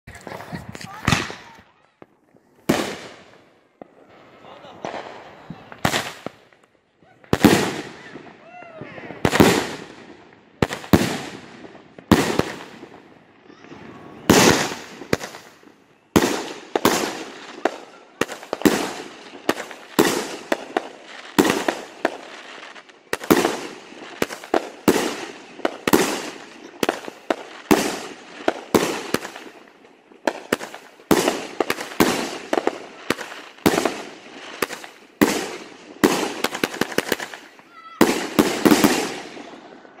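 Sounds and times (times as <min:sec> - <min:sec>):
crackling firework stars: 0:00.1 - 0:40.0
firework bangs: 0:00.1 - 0:40.0.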